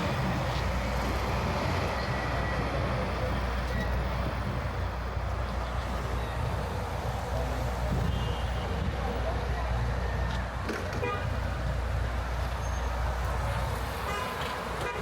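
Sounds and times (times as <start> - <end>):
traffic engine rumble: 0.0 - 15.0
urban street noise: 0.0 - 15.0.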